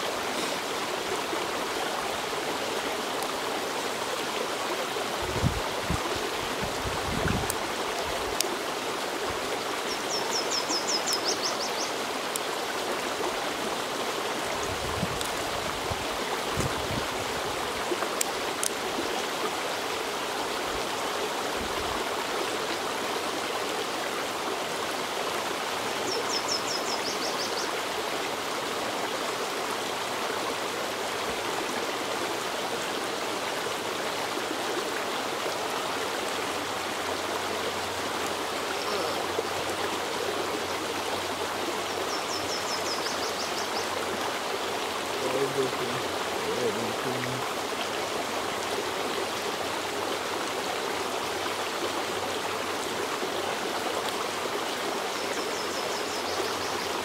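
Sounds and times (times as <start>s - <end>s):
creek running over rocks: 0.0s - 57.0s.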